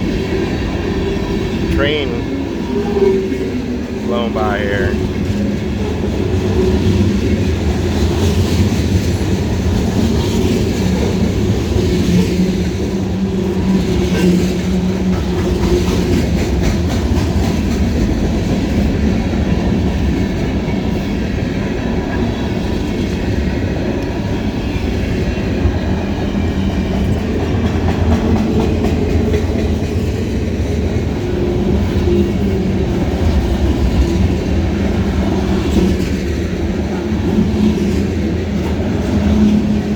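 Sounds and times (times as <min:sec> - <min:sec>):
freight train rumble: 0:00.0 - 0:39.9.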